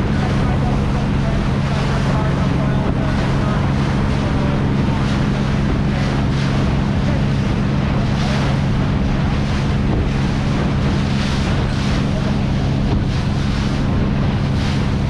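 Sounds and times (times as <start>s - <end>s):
boat engine hum: 0.0s - 15.0s
water rushing along hull: 0.0s - 15.0s
wind buffeting microphone: 0.0s - 15.0s.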